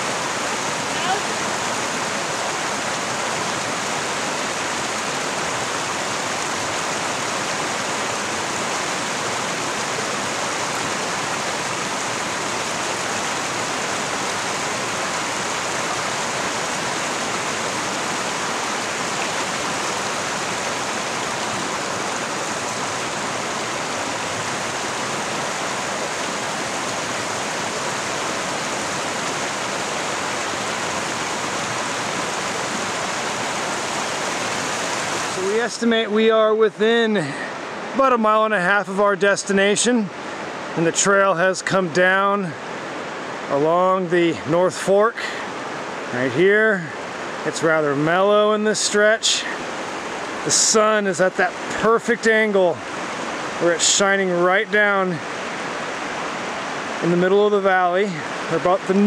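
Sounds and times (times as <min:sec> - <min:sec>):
stream rushing over boulders: 0:00.0 - 0:59.0.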